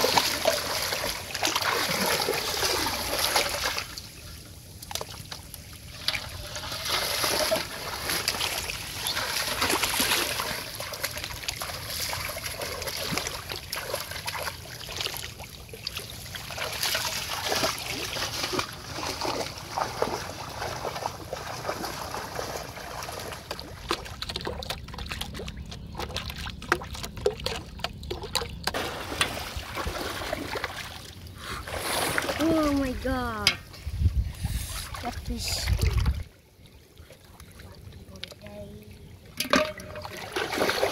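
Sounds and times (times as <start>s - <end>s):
muddy water splashing: 0.0s - 40.9s.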